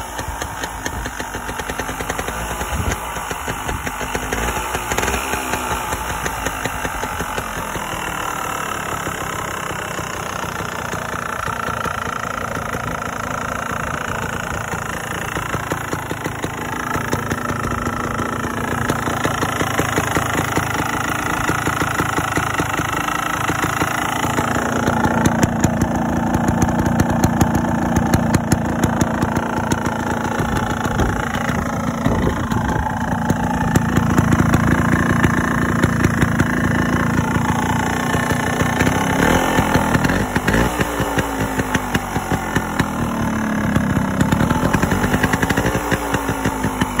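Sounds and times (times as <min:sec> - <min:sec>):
two-stroke motorcycle engine: 0:00.0 - 0:47.0.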